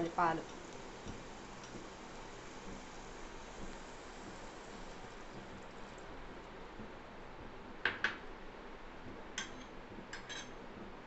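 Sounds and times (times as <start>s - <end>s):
cooking hiss on gas stove: 0.0s - 11.0s.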